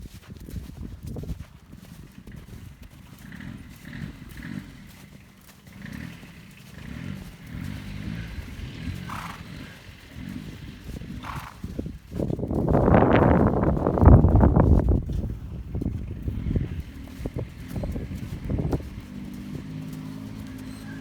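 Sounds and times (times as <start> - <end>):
horse hoofbeats: 0.0 - 21.0
tractor engine running: 0.0 - 21.0.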